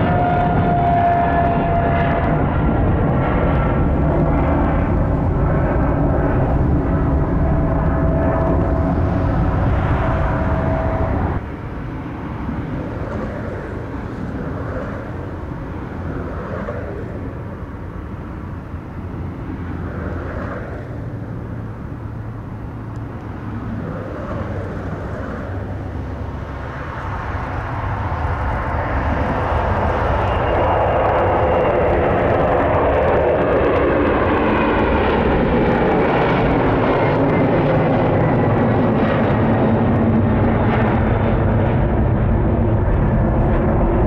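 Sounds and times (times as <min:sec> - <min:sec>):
jet aircraft whine: 0:00.0 - 0:44.0
jet engines rumbling: 0:00.0 - 0:44.0.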